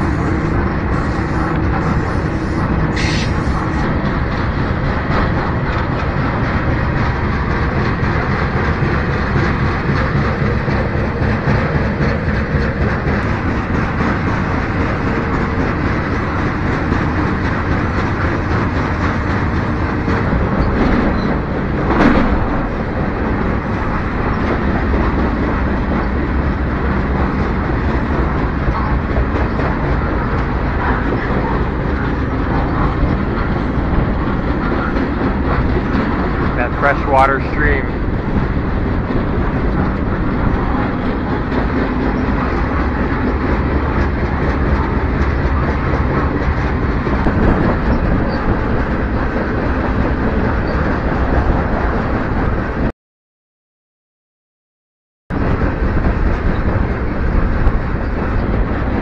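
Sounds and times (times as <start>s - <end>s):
train wheels rumbling on rails: 0.0s - 52.9s, 55.3s - 59.0s.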